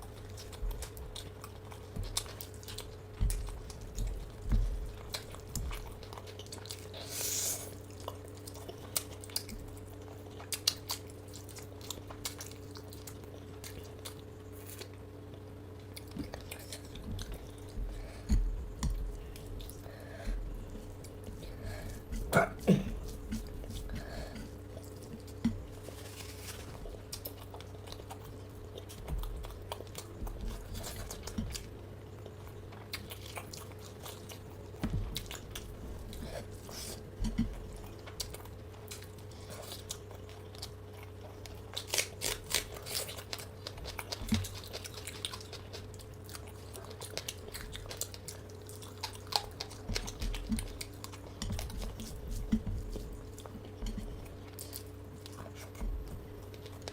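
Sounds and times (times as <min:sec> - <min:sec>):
low steady hum: 0:00.0 - 0:56.9
person chewing crunchy food: 0:00.0 - 0:56.9.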